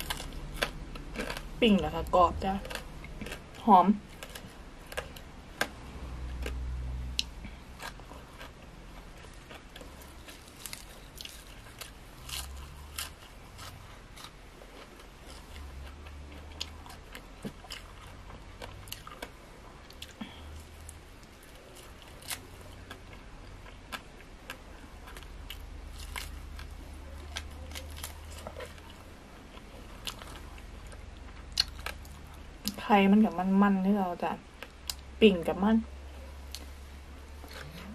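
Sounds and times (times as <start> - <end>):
chewing crunchy food: 0.0 - 32.8.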